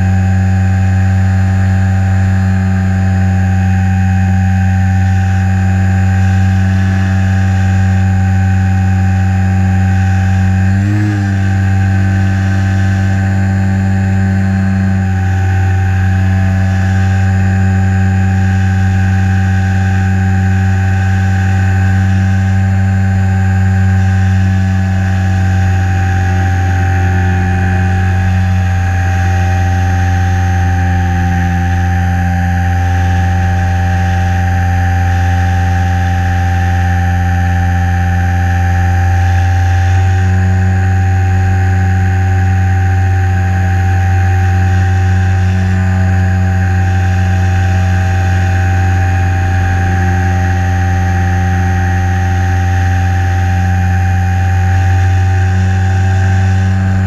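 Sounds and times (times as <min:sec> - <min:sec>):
model plane electric motor whine: 0:00.0 - 0:57.0.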